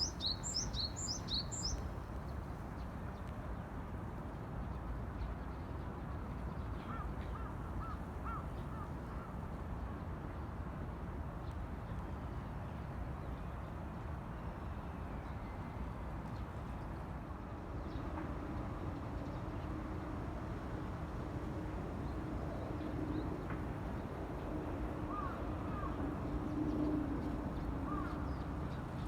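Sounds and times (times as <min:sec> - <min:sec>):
low city rumble: 0:00.0 - 0:29.0.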